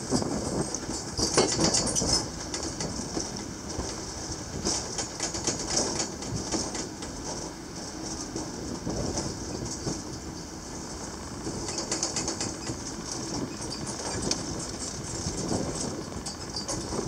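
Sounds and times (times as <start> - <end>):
funicular rumbling on rails: 0.0 - 17.0.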